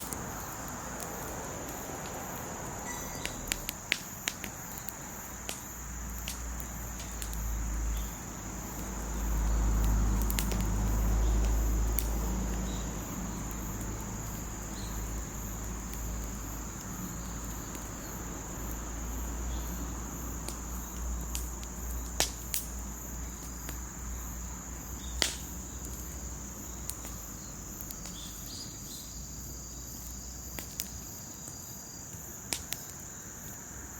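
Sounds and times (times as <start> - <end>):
crickets chirring: 0.0 - 33.9
wood fire crackling: 0.0 - 33.9.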